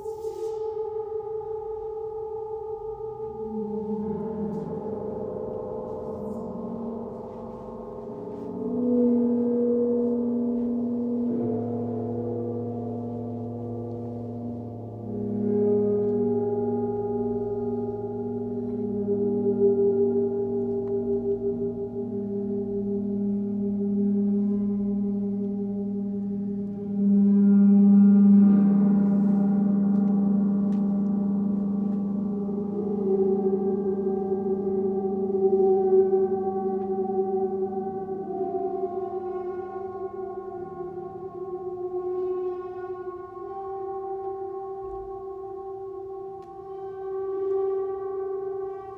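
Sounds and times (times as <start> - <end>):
ringing sound-healing instruments: 0.0 - 48.9.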